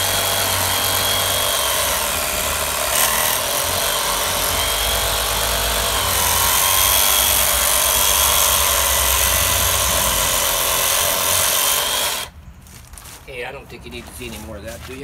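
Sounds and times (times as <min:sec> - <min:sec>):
reciprocating saw cutting wood: 0:00.0 - 0:12.3.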